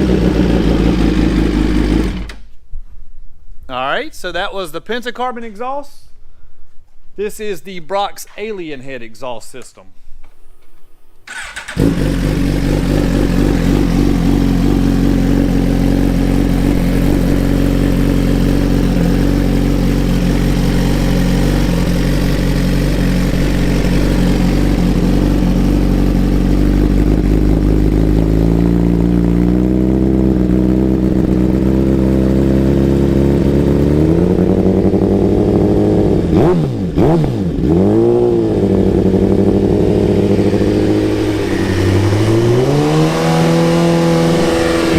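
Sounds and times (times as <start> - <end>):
motorcycle engine revving: 0.0 - 2.4, 11.3 - 44.9.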